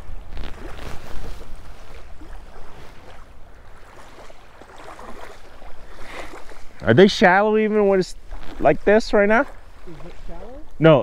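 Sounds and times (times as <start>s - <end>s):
small waves lapping: 0.0s - 11.0s.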